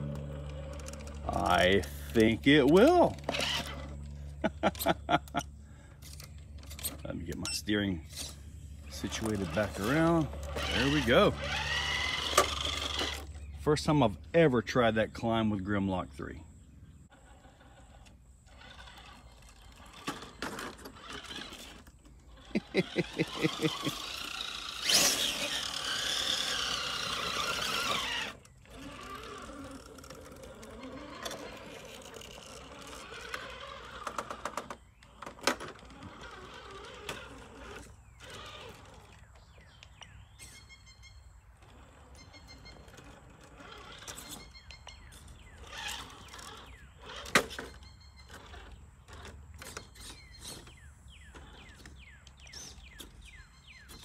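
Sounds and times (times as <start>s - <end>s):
tyres scrabbling on rock: 0.0s - 4.1s, 8.2s - 13.4s, 17.4s - 39.8s, 41.6s - 54.0s
rc car motor and gears: 0.0s - 54.0s.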